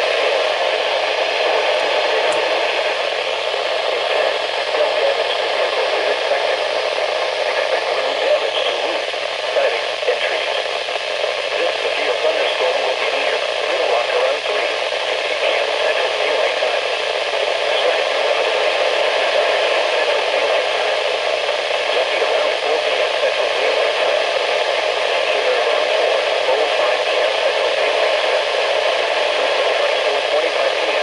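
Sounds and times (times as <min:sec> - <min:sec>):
radio static hiss: 0:00.0 - 0:31.0.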